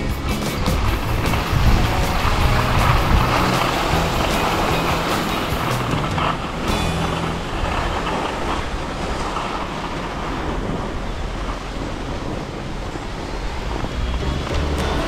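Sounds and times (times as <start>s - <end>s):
skis sliding over snow: 0.0s - 15.0s
wind on microphone: 0.0s - 15.0s.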